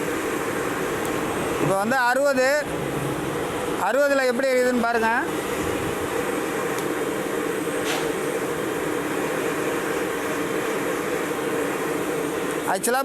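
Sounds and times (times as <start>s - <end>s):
wood stove blower roaring: 0.0s - 13.0s.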